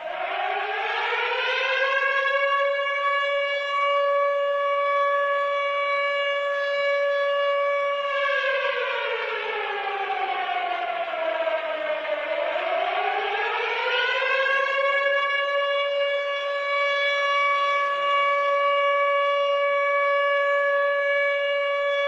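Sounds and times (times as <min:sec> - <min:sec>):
civil defense siren: 0:00.0 - 0:22.0.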